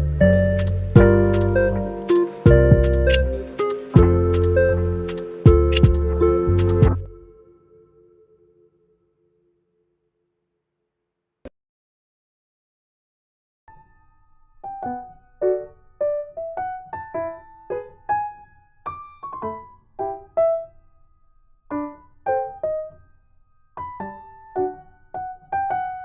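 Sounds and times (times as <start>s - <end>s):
slow piano melody: 0.0s - 8.9s, 13.7s - 26.0s.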